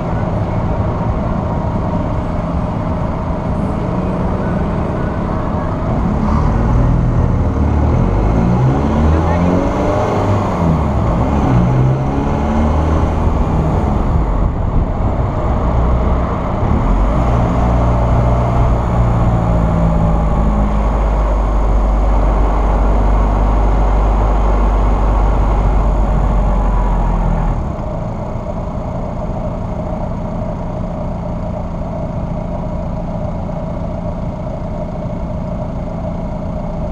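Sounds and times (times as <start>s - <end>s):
car engine running: 0.0s - 36.9s
road noise rumble: 0.0s - 36.9s.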